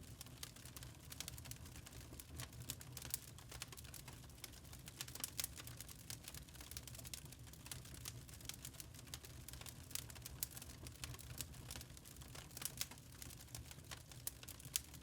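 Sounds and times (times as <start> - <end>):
fire crackling and popping: 0.1 - 15.0.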